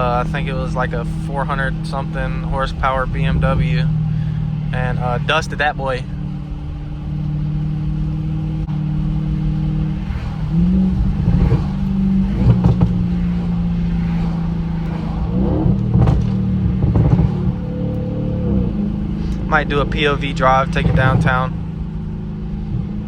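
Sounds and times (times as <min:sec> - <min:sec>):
car exhaust accelerating: 0:00.0 - 0:23.0
exhaust cracks: 0:00.0 - 0:23.0.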